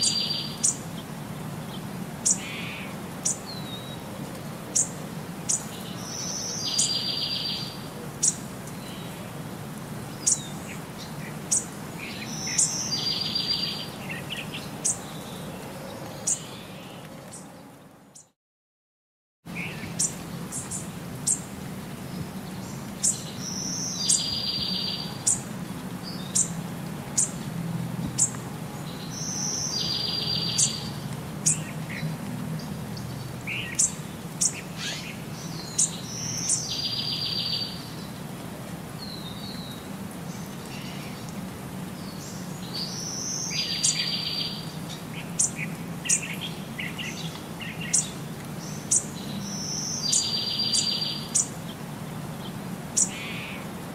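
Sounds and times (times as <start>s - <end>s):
small birds chirping: 0.0s - 9.4s, 10.1s - 18.4s, 19.5s - 38.4s, 39.0s - 53.7s.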